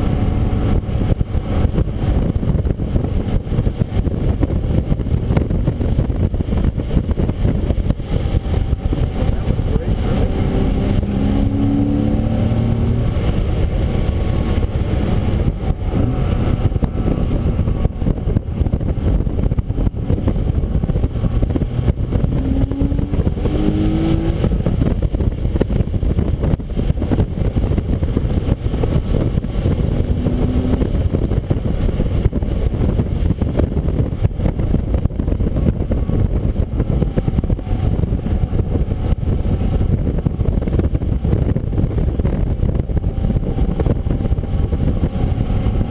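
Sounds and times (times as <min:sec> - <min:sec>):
car engine running hard: 0:00.0 - 0:45.9
road and wind noise: 0:00.0 - 0:45.9.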